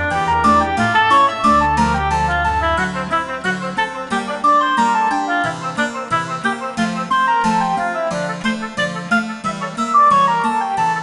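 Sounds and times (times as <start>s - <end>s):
light instrumental tune: 0.0s - 11.0s
plucked strings: 0.0s - 11.0s.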